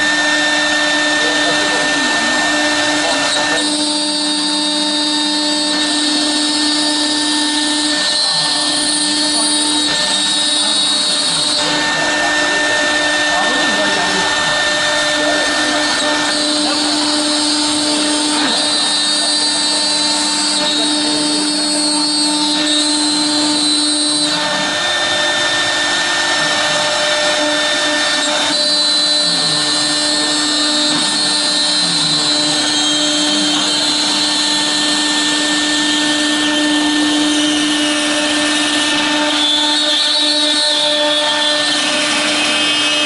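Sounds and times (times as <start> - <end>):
router bit cutting acrylic hiss: 0.0 - 43.0
router spindle high whine: 0.0 - 43.0.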